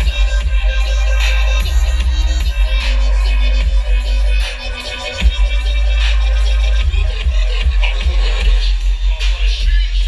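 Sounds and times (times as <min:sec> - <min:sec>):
deep steady sub-bass: 0:00.0 - 0:10.0.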